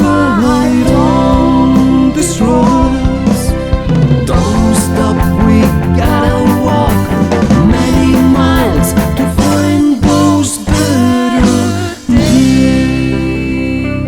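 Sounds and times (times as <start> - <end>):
lead guitar bent notes: 0.0 - 14.0
rock band backing: 0.0 - 14.0.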